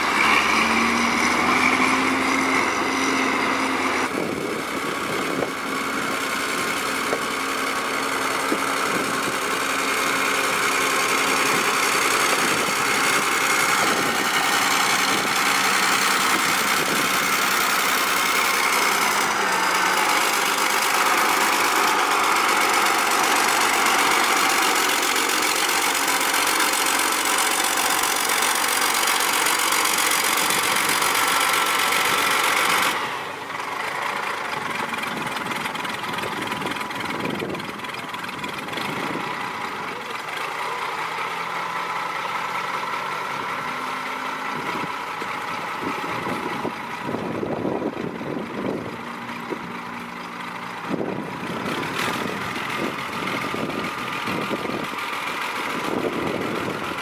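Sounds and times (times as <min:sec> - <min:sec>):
heavy machinery diesel engines: 0:00.0 - 0:57.0.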